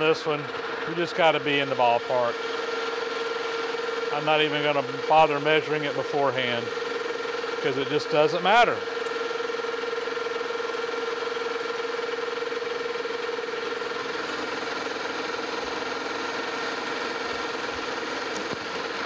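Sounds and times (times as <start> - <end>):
metal lathe humming: 0.0 - 19.0
mid-pitched whine: 0.0 - 19.0.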